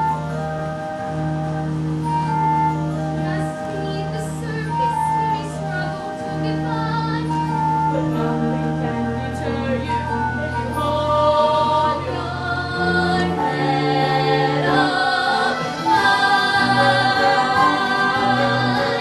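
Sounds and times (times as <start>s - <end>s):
choir singing held notes: 0.0s - 19.0s.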